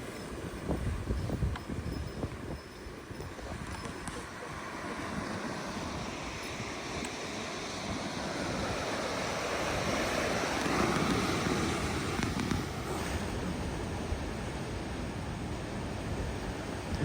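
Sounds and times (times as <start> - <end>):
waves breaking on shore: 0.0 - 17.0
wind buffeting microphone: 0.0 - 17.0.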